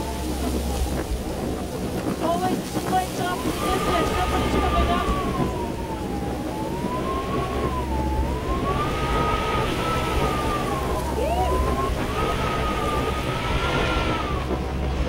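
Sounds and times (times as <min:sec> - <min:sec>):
blizzard wind howling: 0:00.0 - 0:15.0
snowmobile engines droning: 0:00.0 - 0:15.0.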